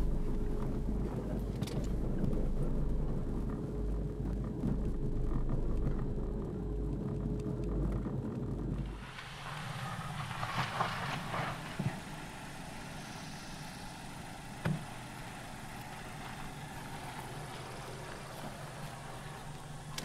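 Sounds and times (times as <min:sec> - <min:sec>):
car engine idling: 0:00.0 - 0:07.0, 0:08.8 - 0:20.0.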